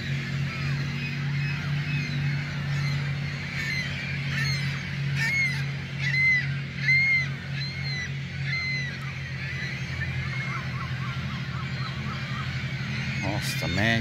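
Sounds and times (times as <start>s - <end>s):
steady low hum: 0.0s - 14.0s
geese honking: 0.1s - 14.0s.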